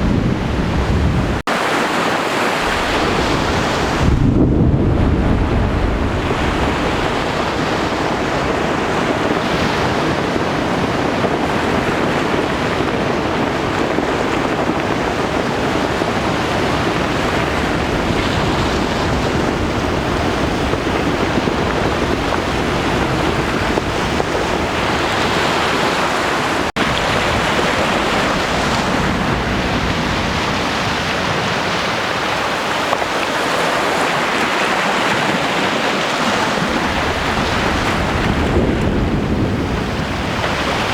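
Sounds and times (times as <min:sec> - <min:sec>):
surf rushing: 0:00.0 - 0:40.9
wind on microphone: 0:00.0 - 0:40.9.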